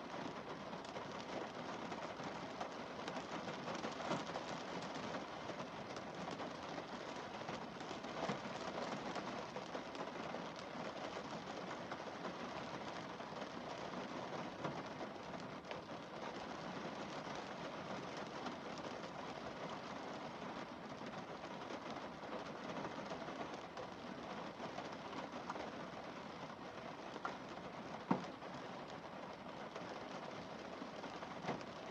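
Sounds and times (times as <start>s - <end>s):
rain on a car windscreen: 0.0s - 31.9s.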